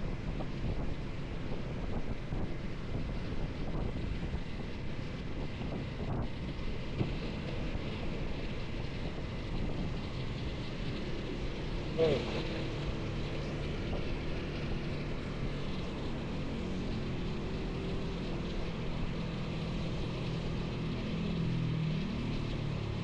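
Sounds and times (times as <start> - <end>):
motorcycle engine: 0.0 - 23.0
road noise: 0.0 - 23.0
wind rushing over microphone: 0.0 - 23.0.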